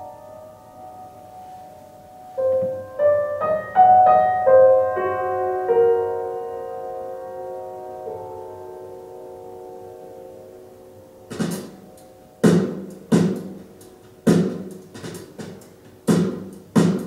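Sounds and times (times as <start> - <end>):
solo piano over loudspeakers: 0.0 - 14.5.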